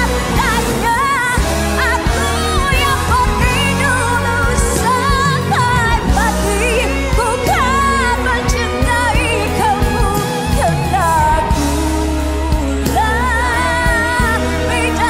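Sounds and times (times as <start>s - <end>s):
band accompaniment: 0.0s - 15.0s
woman singing pop ballad: 0.0s - 15.0s.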